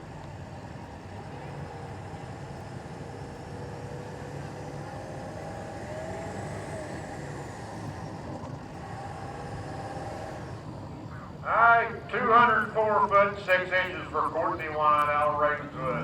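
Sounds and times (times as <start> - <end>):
truck engine under load: 0.0 - 16.0.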